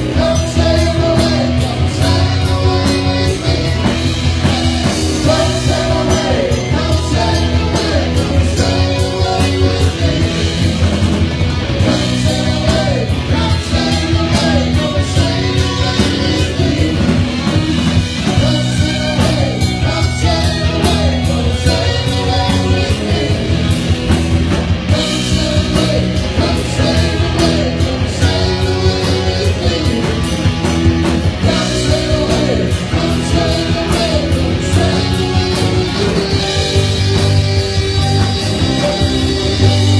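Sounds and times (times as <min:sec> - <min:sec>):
person singing: 0:00.0 - 0:10.9, 0:11.8 - 0:23.8, 0:24.9 - 0:30.5, 0:31.4 - 0:39.9
live rock band playing: 0:00.0 - 0:39.9.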